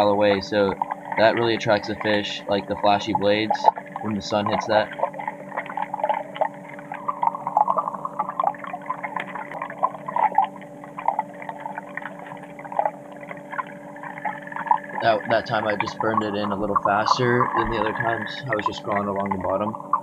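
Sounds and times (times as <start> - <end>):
underwater crackling and clicking: 0.0 - 20.0
underwater low hum: 0.0 - 20.0.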